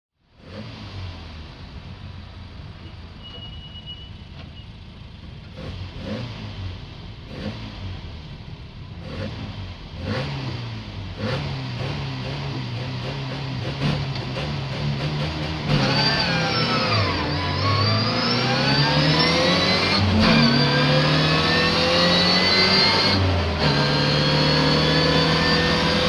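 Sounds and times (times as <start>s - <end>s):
racing car engine revving: 0.3s - 1.6s, 5.4s - 26.0s.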